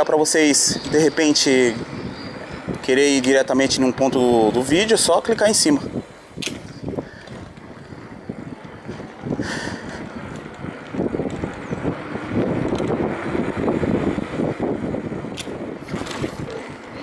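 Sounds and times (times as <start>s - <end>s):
bike rattling: 0.0s - 17.0s
wind buffeting microphone: 0.2s - 17.0s
bicycle rolling over rough asphalt: 0.3s - 17.0s.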